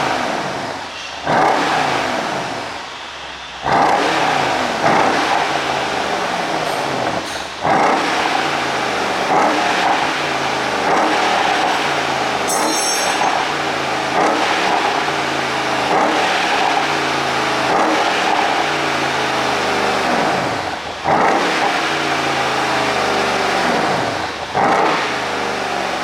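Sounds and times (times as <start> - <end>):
car engine revving: 0.0 - 26.0
exhaust cracks: 3.6 - 26.0.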